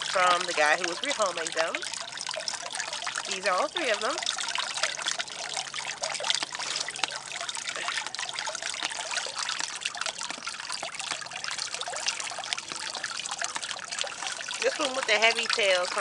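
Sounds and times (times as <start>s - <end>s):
water trickling into a pond: 0.0s - 16.0s.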